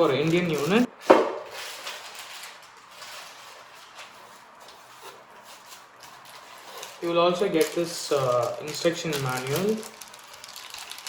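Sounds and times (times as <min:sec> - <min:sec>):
rustling packaging handling: 0:00.0 - 0:11.0.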